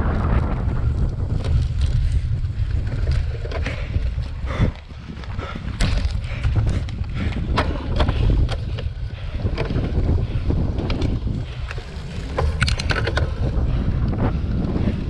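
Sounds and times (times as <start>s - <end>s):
bike clicks and rattles: 0.0s - 15.0s
wind buffeting microphone: 0.0s - 15.0s.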